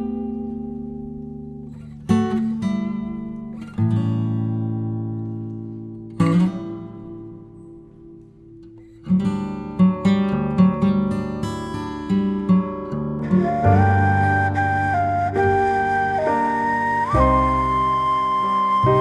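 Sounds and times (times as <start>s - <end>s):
acoustic guitar music: 0.2s - 19.0s.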